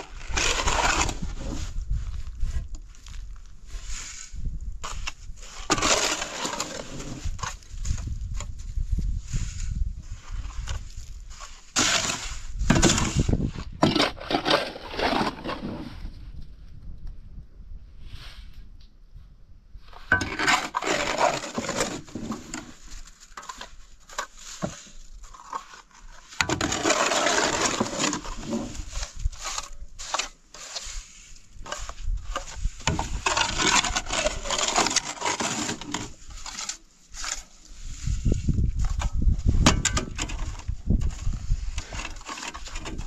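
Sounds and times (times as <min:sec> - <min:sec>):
scraping and rubbing: 0:00.0 - 0:16.3, 0:19.8 - 0:43.0.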